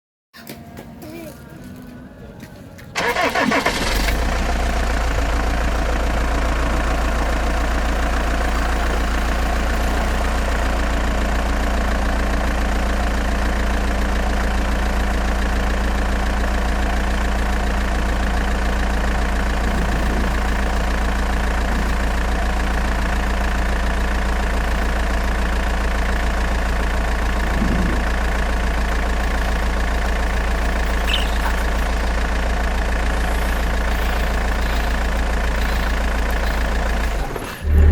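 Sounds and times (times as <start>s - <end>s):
engine starting and idling: 2.9s - 37.9s.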